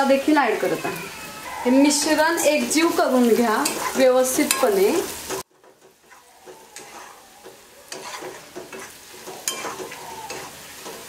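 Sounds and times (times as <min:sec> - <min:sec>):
oil sizzling: 0:00.0 - 0:11.0
metal spatula scraping a pan: 0:00.5 - 0:11.0.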